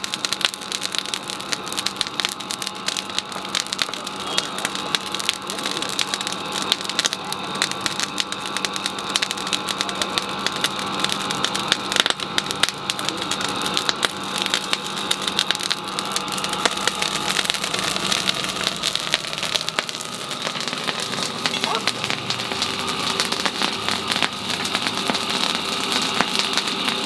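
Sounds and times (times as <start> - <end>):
fire crackling: 0.0 - 27.0
forge blower hum: 0.0 - 27.0.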